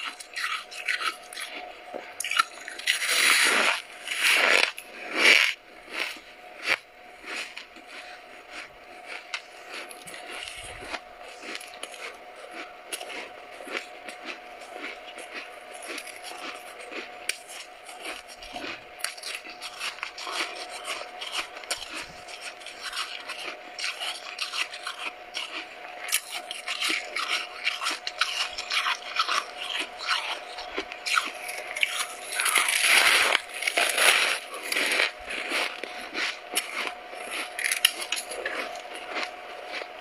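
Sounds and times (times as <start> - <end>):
frost crunching being chewed: 0.0 - 40.0.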